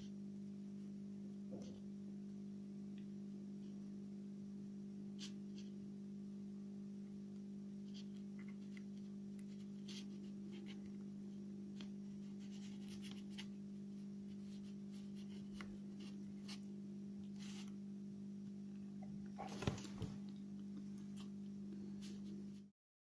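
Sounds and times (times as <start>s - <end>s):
steady low hum: 0.0s - 22.7s.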